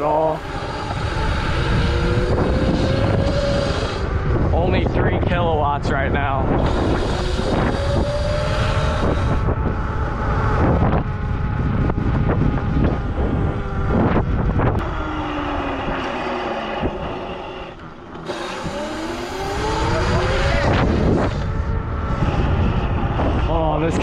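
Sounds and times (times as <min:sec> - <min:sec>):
electric dirt bike motor whining: 0:00.0 - 0:24.0
wind noise on microphone: 0:00.0 - 0:24.0.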